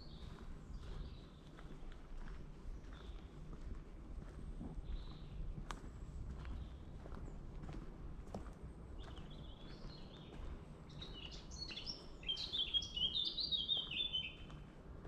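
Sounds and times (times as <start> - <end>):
low outdoor rumble: 0.0 - 12.6, 13.7 - 15.0
faint footsteps on path: 0.0 - 15.0
songbird chirping: 0.0 - 15.0.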